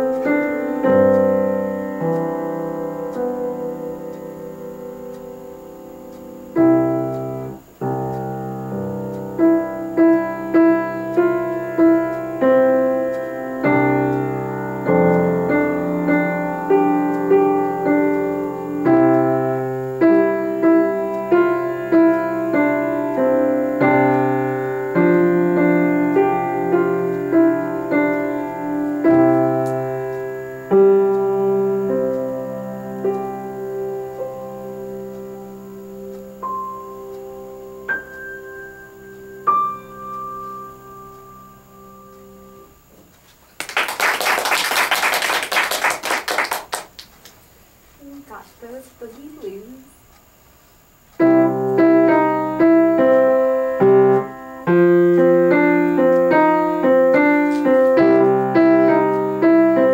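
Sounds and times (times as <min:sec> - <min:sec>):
solo grand piano playing: 0:00.0 - 0:43.0, 0:51.2 - 0:59.9.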